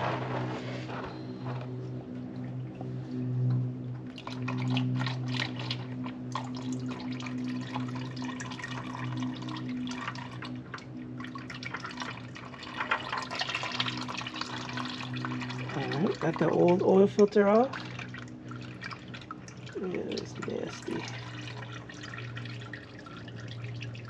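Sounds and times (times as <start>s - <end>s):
steady low hum: 0.0s - 24.0s
oil dripping and trickling: 2.1s - 24.0s.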